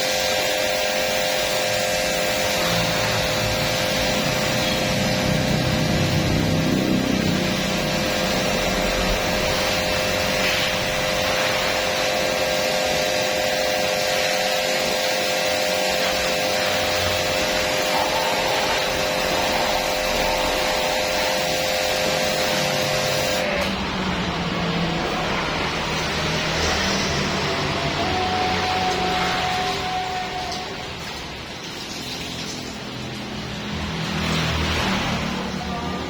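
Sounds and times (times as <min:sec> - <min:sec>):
pressure washer spraying: 0:00.0 - 0:35.9.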